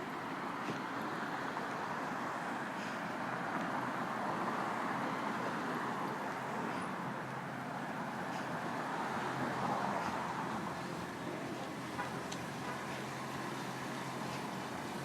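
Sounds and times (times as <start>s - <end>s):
traffic from passing cars: 0.0s - 15.0s.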